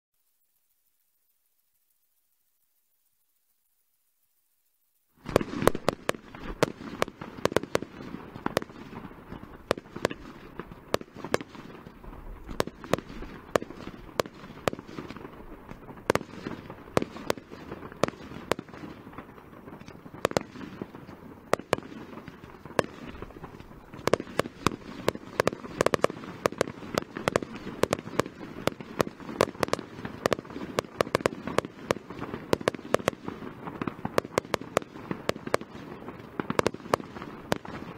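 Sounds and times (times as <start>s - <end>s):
fireworks bursting: 5.1s - 37.9s.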